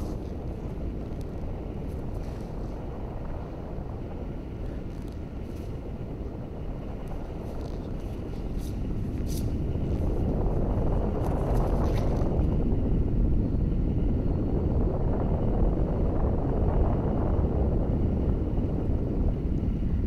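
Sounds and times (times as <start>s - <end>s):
steady low rumbling: 0.0s - 20.0s.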